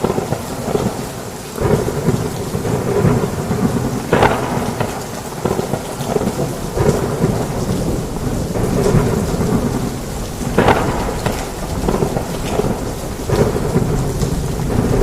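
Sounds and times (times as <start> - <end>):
heavy rain falling: 0.0 - 15.0
low rolling thunder: 0.0 - 15.0
sharp thunder cracks: 1.6 - 15.0.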